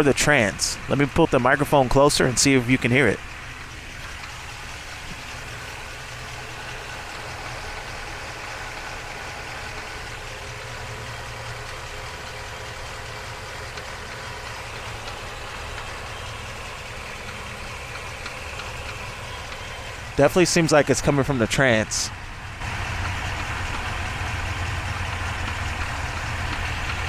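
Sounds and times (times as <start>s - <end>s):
transmission knocking: 0.0s - 27.0s
truck engine idling: 0.0s - 27.0s.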